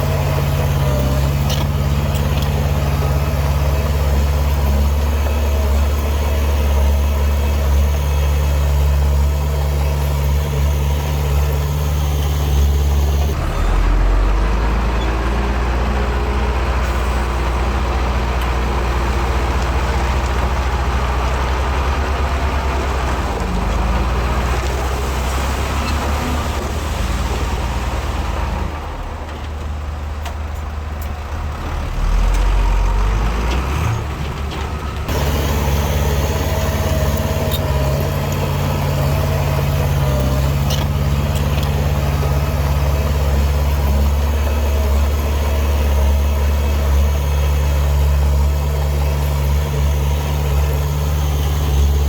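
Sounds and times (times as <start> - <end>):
diesel engine drone: 0.0 - 52.0.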